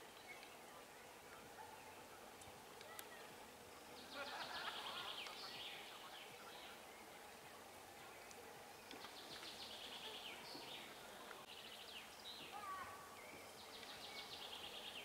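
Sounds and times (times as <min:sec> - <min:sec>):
faint distant voices: 0:00.0 - 0:15.0
small birds chirping: 0:00.0 - 0:15.0.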